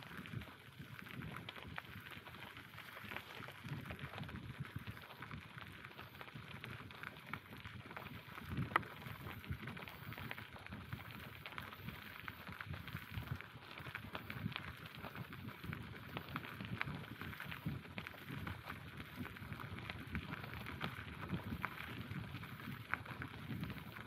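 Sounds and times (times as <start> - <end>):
bicycle tyres crackling: 0.0 - 24.0.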